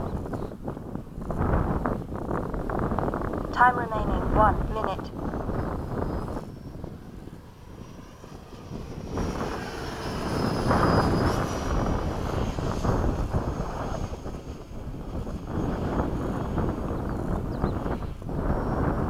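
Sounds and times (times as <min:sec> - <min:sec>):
model jet fan motor whine: 0:00.0 - 0:19.0
wind rumble on microphone: 0:00.0 - 0:19.0.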